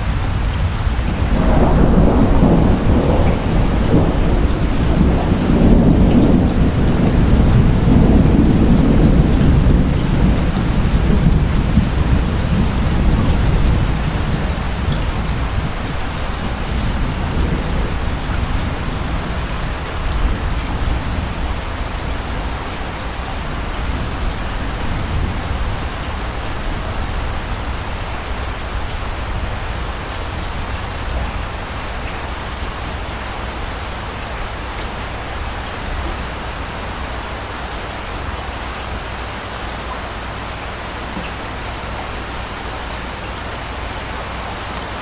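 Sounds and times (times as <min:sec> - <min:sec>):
distant thunder rumble: 0:00.0 - 0:36.8
steady rain falling: 0:00.0 - 0:45.0.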